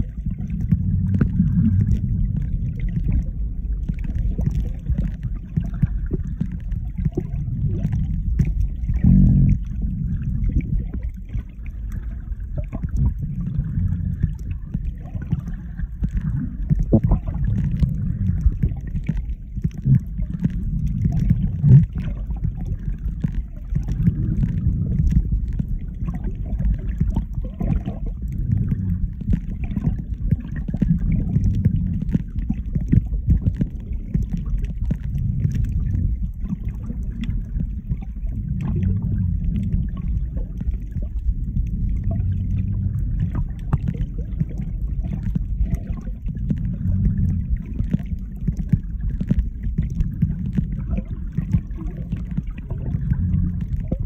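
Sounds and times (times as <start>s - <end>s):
faint crackling clicks: 0.0s - 54.0s
underwater water rumble: 0.0s - 54.0s.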